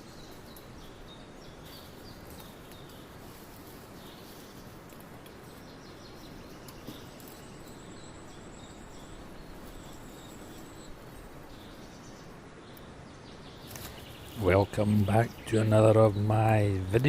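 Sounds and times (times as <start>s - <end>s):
distant birds chirping: 0.0s - 17.0s
steady background hiss: 0.0s - 17.0s.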